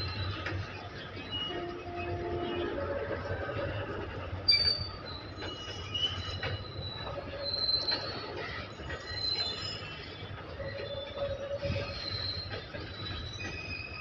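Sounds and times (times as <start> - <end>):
low train rumble: 0.0 - 14.0
train wheels squealing: 0.0 - 14.0.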